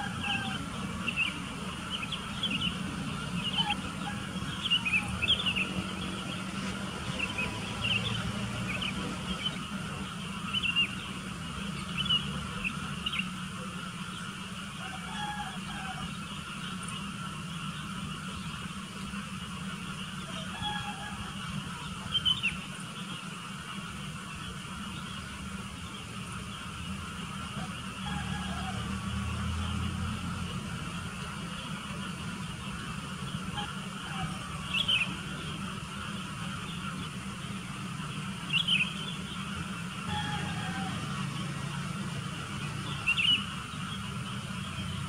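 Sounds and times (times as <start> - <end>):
birds calling: 0.0 - 45.0
steady background hum: 0.0 - 45.0.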